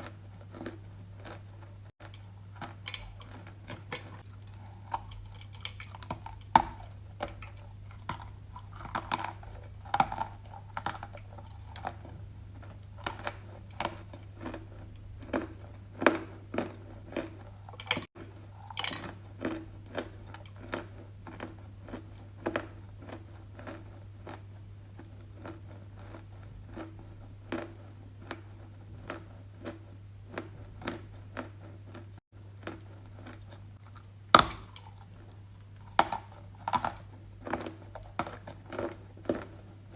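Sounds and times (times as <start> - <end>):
clay being chewed: 0.0 - 39.9
steady low hum: 0.0 - 39.9.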